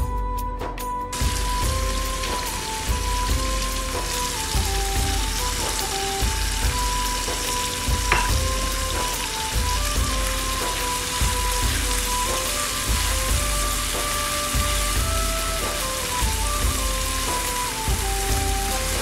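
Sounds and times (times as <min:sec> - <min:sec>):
background music: 0:00.0 - 0:19.0
food sizzling in a wok: 0:01.1 - 0:19.0.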